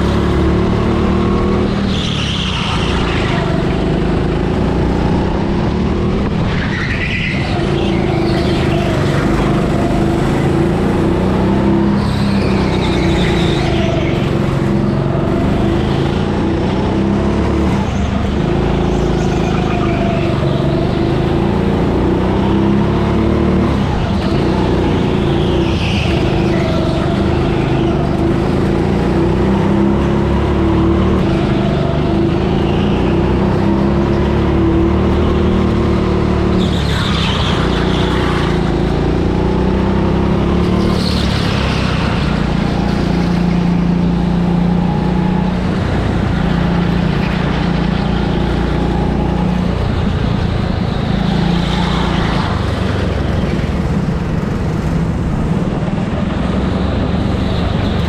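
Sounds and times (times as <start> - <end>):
go-kart motor drone: 0.0 - 58.0.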